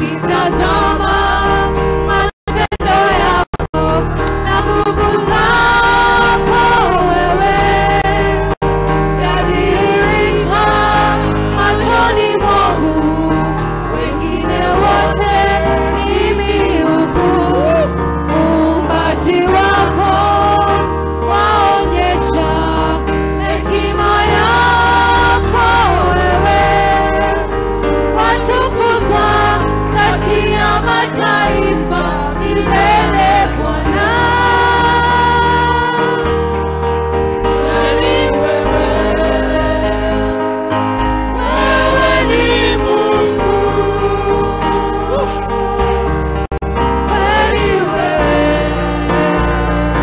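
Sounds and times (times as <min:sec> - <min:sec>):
choir singing: 0:00.0 - 0:08.6, 0:09.2 - 0:36.6, 0:37.4 - 0:50.0
band with sustained bass: 0:00.0 - 0:50.0.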